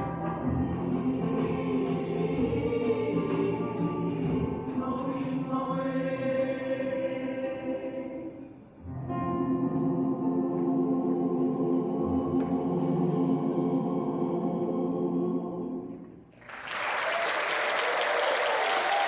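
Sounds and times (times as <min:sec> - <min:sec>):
mixed choir singing chords: 0:00.0 - 0:16.3.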